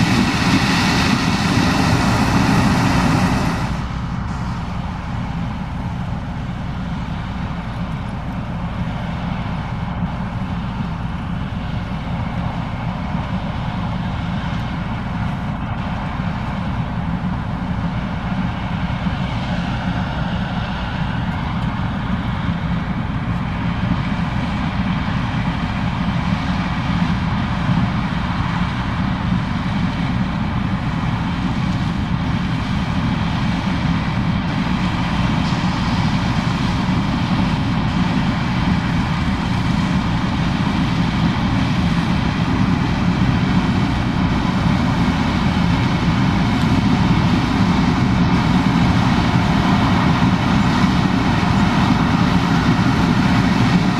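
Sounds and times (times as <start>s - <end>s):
combine harvester drone: 0.0s - 53.9s.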